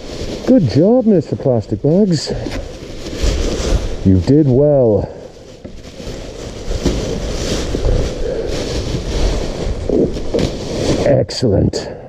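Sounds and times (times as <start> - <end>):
plastic bin bags rustling: 0.0 - 11.8.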